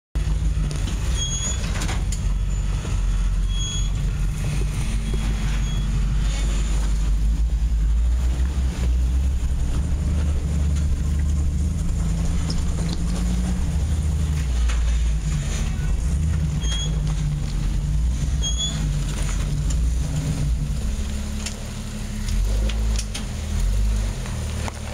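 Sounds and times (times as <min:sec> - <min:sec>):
car engine at low revs: 0:00.2 - 0:24.9.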